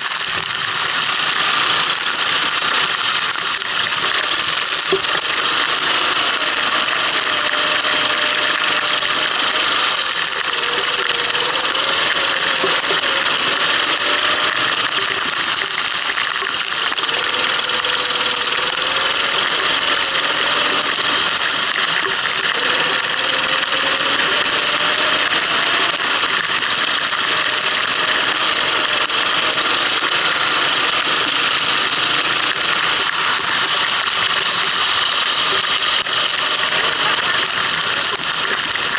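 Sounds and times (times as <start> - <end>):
kart engine running: 0.0 - 38.9.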